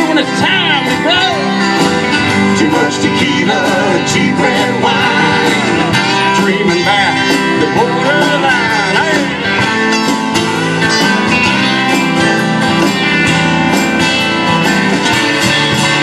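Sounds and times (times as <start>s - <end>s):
country band playing: 0.0s - 16.0s
guitar: 0.0s - 16.0s
steady drum beat: 0.0s - 16.0s.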